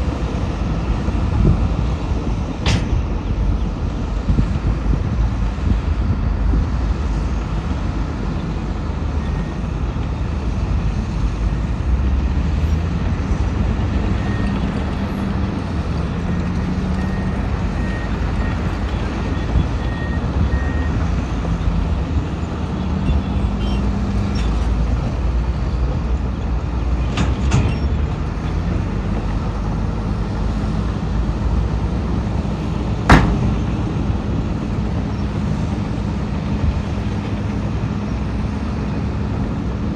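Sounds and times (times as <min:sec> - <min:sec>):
diesel heavy machinery running: 0:00.0 - 0:39.9.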